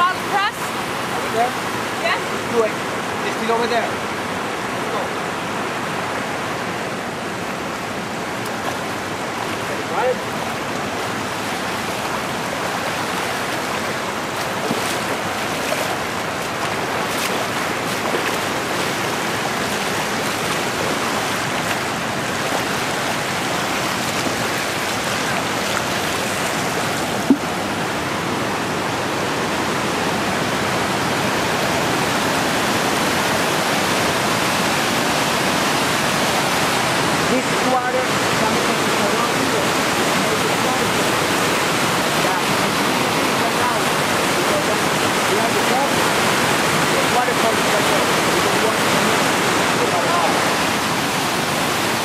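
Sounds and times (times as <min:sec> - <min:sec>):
water rushing over rock: 0:00.0 - 0:52.0.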